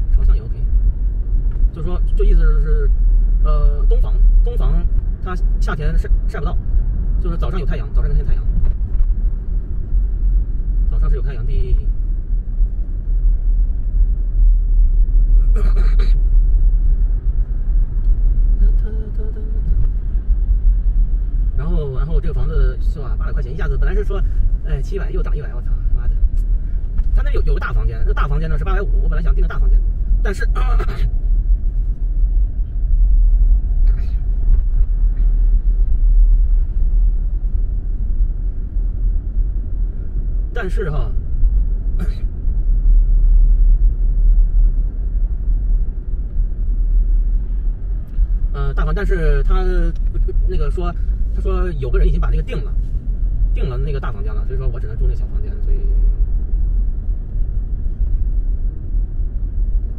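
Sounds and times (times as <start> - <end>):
car driving heard from inside: 0.0 - 59.9.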